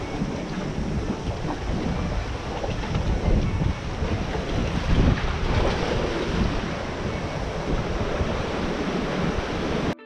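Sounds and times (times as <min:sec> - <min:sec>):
surf washing against rocks: 0:00.0 - 0:10.0
wind buffeting microphone: 0:00.0 - 0:10.0.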